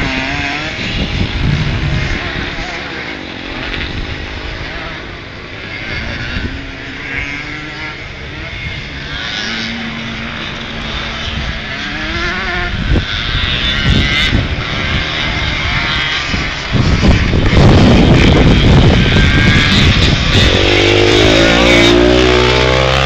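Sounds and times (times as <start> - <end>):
motorcycles racing revving: 0.0 - 23.0.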